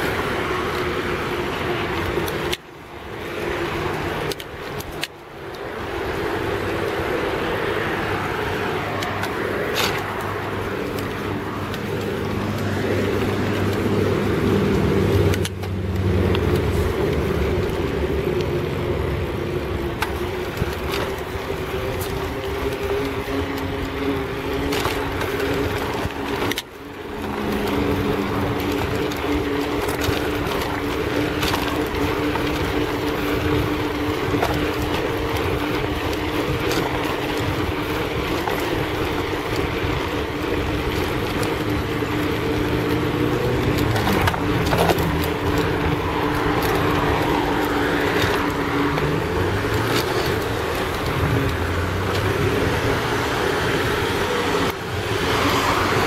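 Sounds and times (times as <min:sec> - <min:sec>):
small motorcycle engine running: 0:00.0 - 0:56.0
wind noise on microphone: 0:00.0 - 0:56.0.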